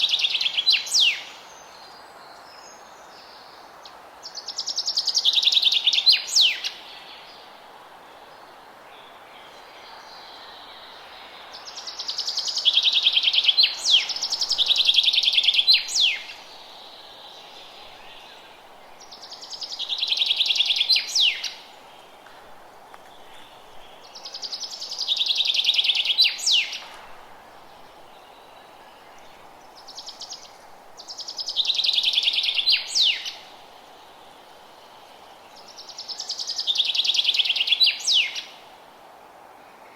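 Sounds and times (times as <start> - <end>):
songbird singing: 0.0 - 38.8
background hiss: 0.0 - 39.9.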